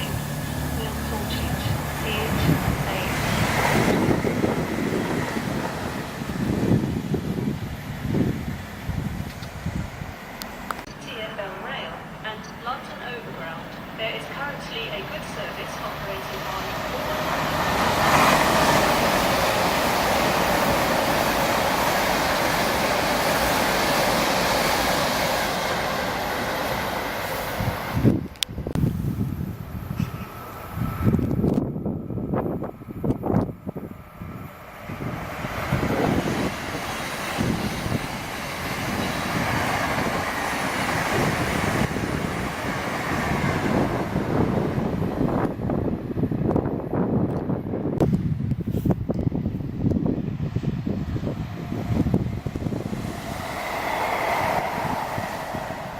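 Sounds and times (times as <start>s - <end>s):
train wheels rushing on rail: 0.0s - 10.9s, 12.4s - 55.9s.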